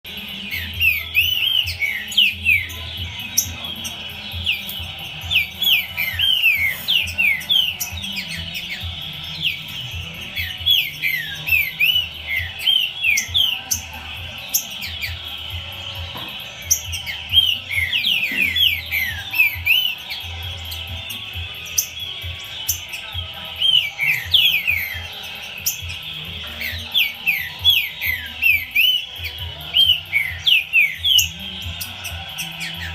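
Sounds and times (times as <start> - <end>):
bird singing whistled phrases: 0.1 - 32.9.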